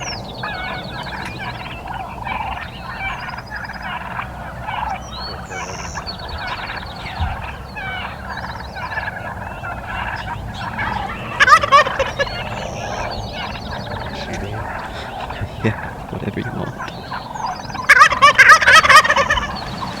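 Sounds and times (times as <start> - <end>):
trilling bird calls: 0.0 - 20.0
wild turkeys gobbling: 0.0 - 20.0.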